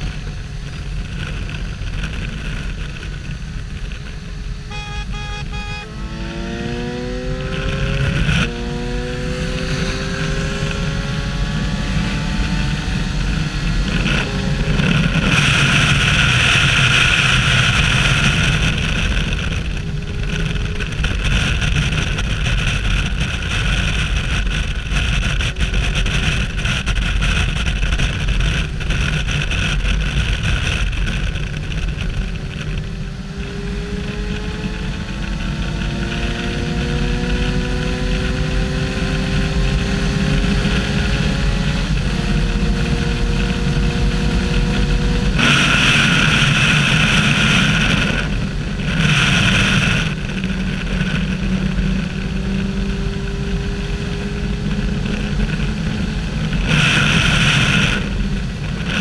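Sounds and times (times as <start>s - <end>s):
motorcycle engine running hard: 0.0s - 59.0s
rushing wind: 0.0s - 59.0s.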